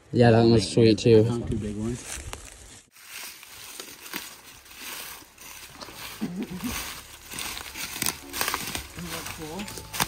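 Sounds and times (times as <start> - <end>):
footsteps crunching dry leaves: 1.7 - 10.0.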